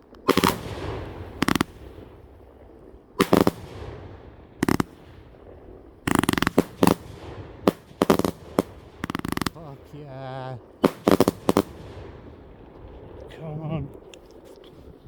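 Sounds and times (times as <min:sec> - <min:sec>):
firework bangs with crackling: 0:00.0 - 0:15.0.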